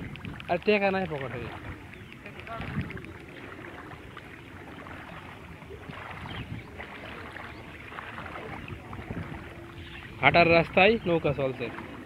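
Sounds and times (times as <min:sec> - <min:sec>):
feet wading through water: 0:00.0 - 0:12.0.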